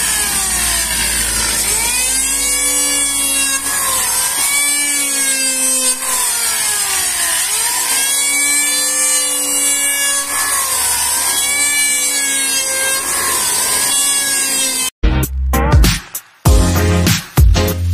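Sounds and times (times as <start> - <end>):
electric planer motor whine: 0.0 - 14.9.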